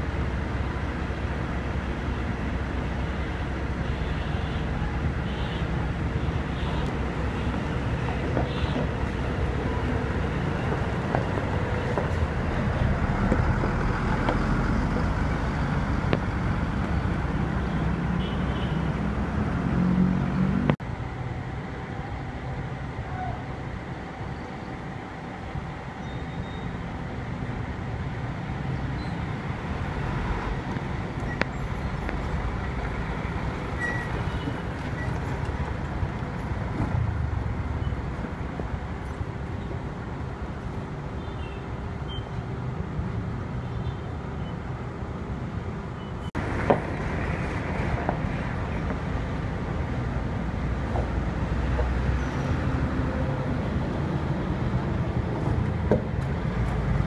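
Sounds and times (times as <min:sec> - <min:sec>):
diesel bus engines rumbling: 0:00.0 - 0:57.0
traffic noise: 0:00.0 - 0:57.0.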